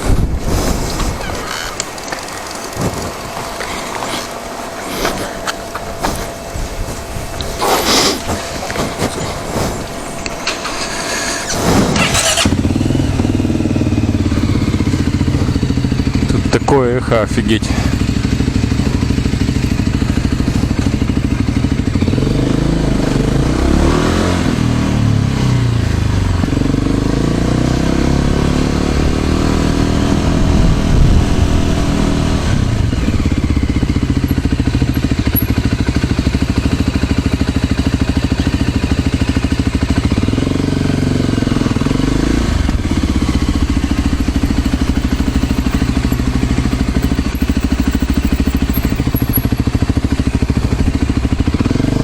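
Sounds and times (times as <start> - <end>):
motor scooter engine: 0.0 - 52.0.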